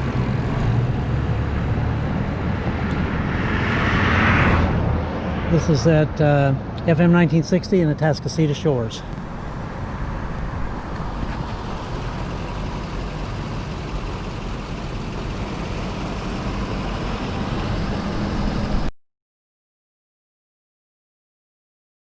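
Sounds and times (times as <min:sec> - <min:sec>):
highway traffic rumble: 0:00.0 - 0:18.9.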